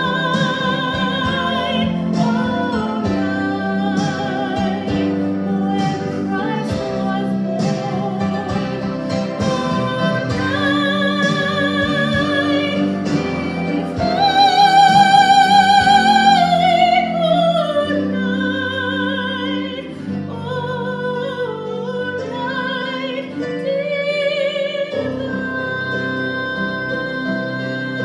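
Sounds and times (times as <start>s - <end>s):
instrumental accompaniment: 0.0s - 28.0s
person singing classical style: 0.0s - 28.0s.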